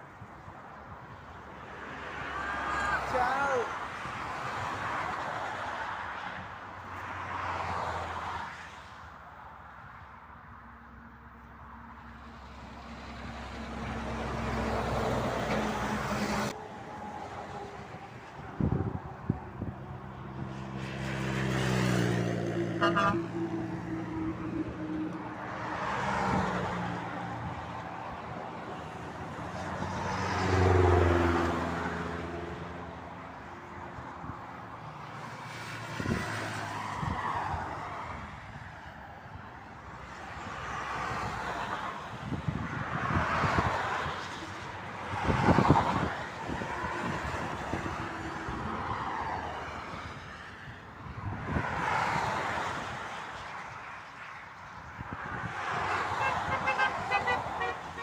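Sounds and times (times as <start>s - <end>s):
motorway traffic passing: 0.0s - 58.0s.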